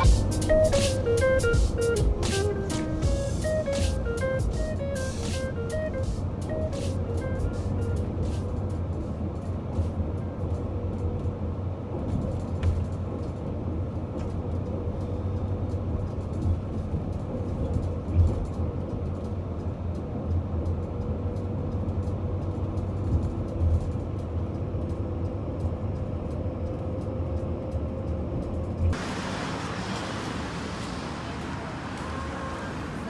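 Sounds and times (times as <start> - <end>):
vehicle rumble: 0.0 - 33.0.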